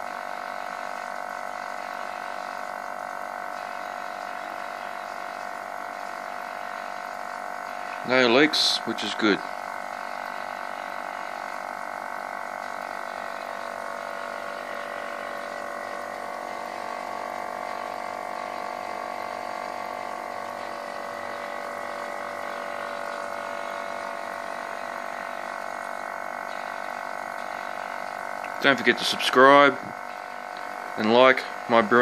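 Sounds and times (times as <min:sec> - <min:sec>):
beer pump humming: 0:00.0 - 0:32.0.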